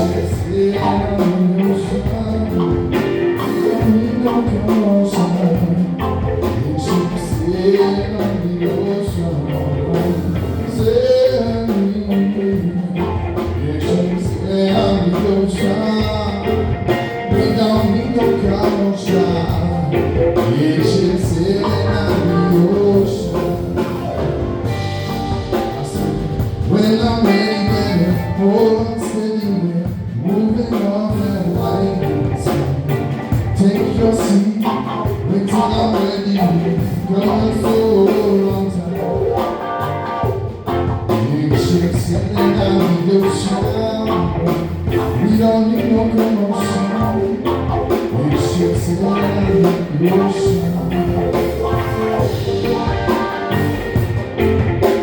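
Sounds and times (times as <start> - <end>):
live reggae band playing: 0.0 - 55.0
person singing: 0.0 - 55.0.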